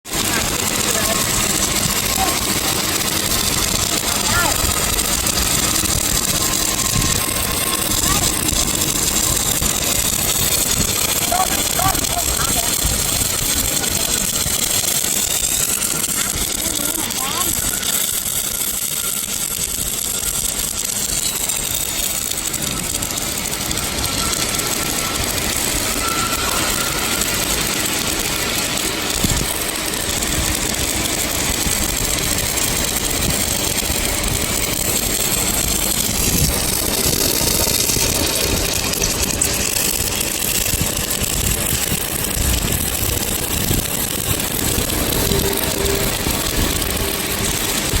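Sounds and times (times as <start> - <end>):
welding arc crackling: 0.0 - 48.0.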